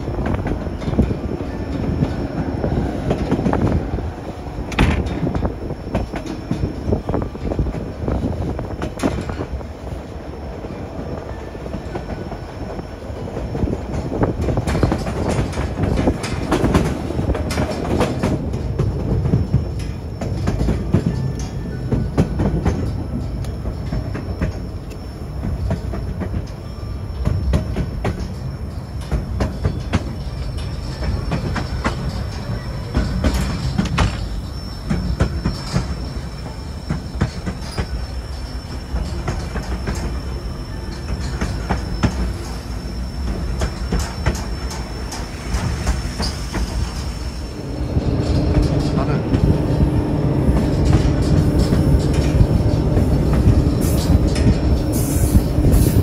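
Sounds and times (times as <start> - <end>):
high wheel squeal: 0.0 - 56.0
train cars rumbling: 0.0 - 56.0
wheels clicking over rail joints: 0.0 - 56.0.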